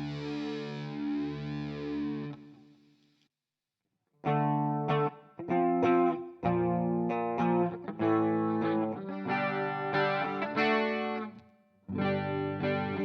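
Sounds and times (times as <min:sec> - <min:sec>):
electric guitar chords and notes: 0:00.0 - 0:02.8, 0:04.2 - 0:13.0.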